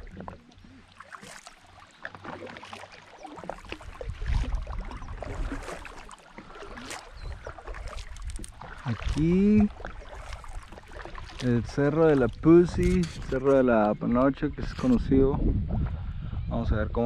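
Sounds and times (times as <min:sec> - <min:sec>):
paddle splashing in water: 0:00.0 - 0:14.9.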